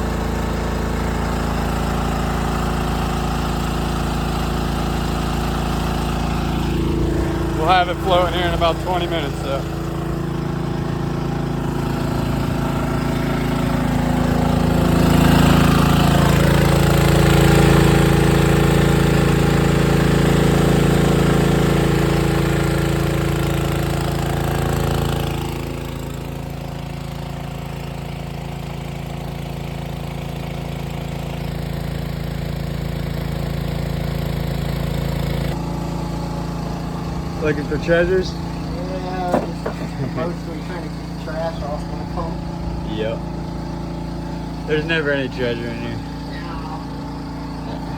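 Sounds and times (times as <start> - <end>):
engine-driven water pump running: 0.0 - 47.9.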